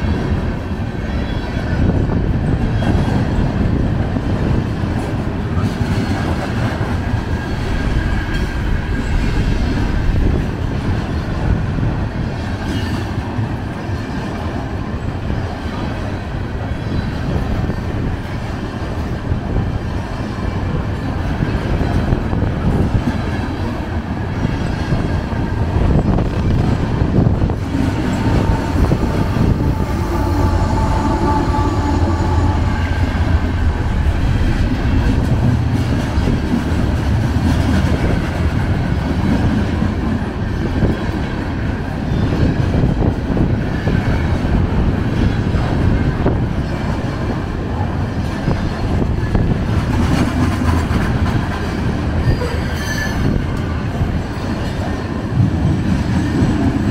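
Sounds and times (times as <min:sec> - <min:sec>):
freight train passing: 0:00.0 - 0:56.9
steel wheels on rails: 0:00.0 - 0:56.9.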